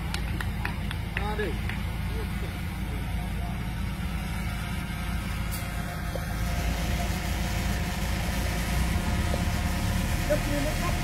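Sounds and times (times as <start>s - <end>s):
buggy engine idling: 0.0s - 11.0s.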